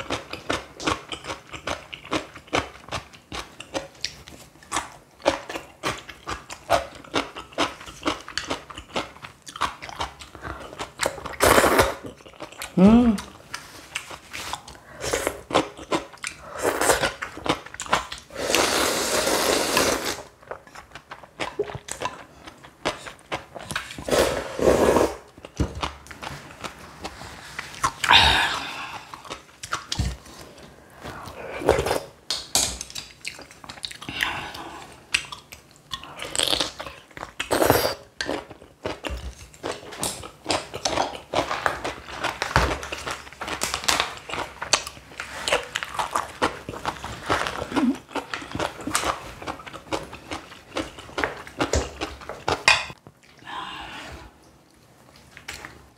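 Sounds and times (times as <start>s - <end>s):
person crunching and chewing: 0.0s - 53.4s.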